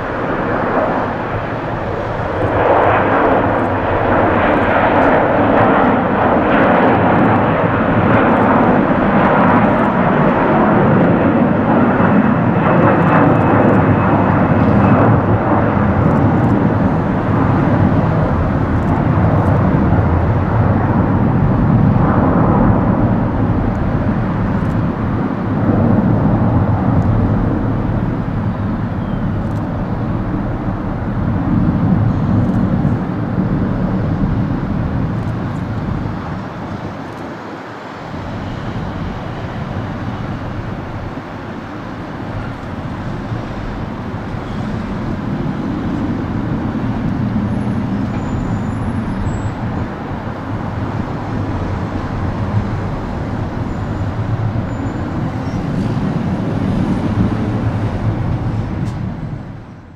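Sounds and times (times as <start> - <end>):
jet engines low rumble: 0.0 - 59.9.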